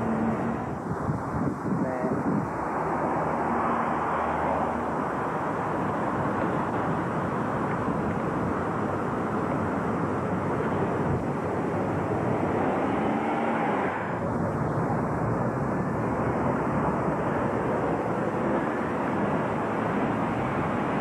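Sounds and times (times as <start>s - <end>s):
rushing street traffic: 0.0s - 21.0s.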